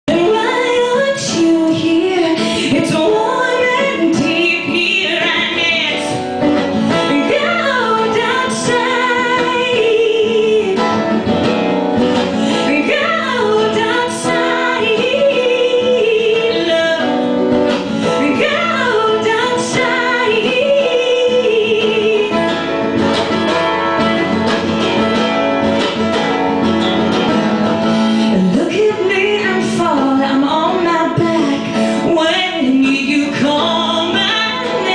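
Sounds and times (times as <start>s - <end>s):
acoustic guitar: 0.0s - 34.9s
woman singing with vibrato: 0.1s - 11.4s, 12.4s - 22.9s, 28.2s - 34.9s.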